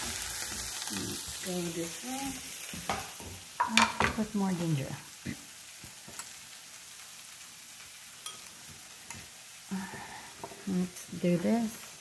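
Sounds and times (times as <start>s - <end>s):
aromatics sizzling in oil: 0.0s - 12.0s.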